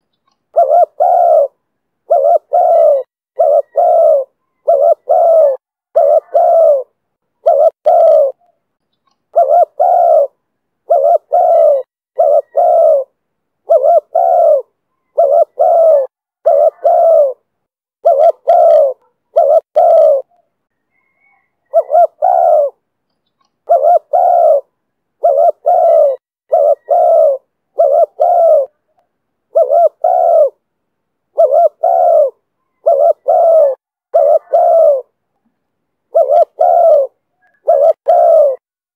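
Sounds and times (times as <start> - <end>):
dove cooing: 0.0 - 8.6, 9.3 - 22.8, 23.6 - 30.6, 31.3 - 35.2, 36.1 - 38.6.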